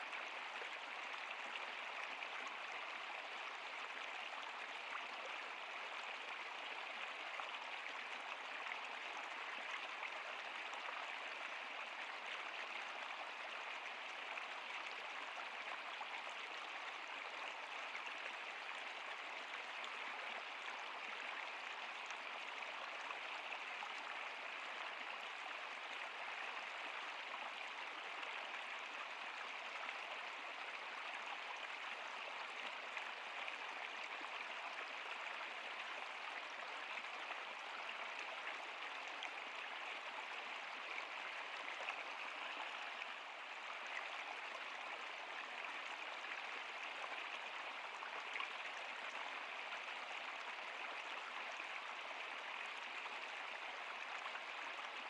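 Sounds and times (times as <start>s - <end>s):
stream rushing and babbling: 0.0s - 55.0s.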